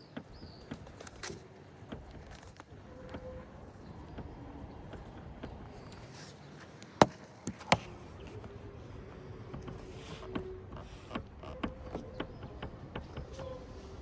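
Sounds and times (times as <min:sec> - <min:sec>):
sunroof clicking: 0:00.1 - 0:08.6, 0:09.4 - 0:13.6.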